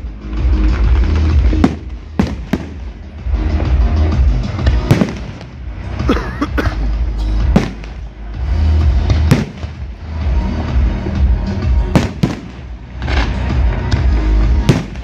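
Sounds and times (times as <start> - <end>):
fireworks bursting: 0.0 - 6.1, 6.9 - 15.0
continuous low rumble: 0.0 - 15.0
music playing: 0.0 - 15.0.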